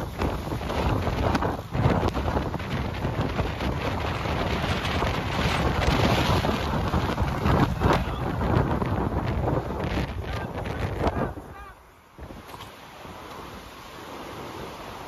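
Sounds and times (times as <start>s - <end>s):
gusting wind on microphone: 0.0s - 15.0s.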